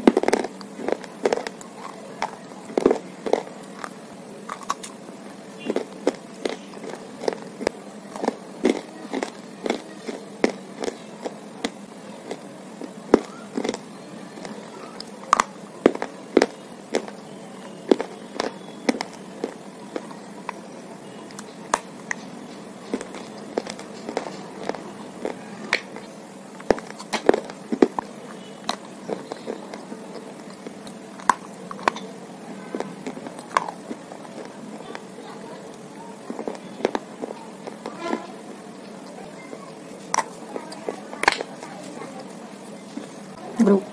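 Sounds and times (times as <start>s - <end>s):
crunching of clay being bitten: 0.0s - 38.0s, 38.8s - 42.0s.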